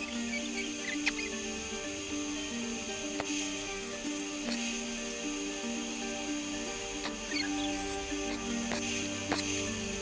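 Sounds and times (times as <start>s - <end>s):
melody of held notes: 0.0s - 10.0s.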